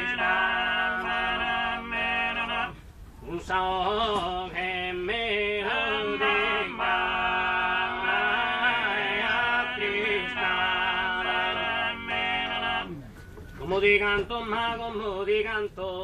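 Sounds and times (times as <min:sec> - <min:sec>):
male voices singing in harmony: 0:00.0 - 0:16.0.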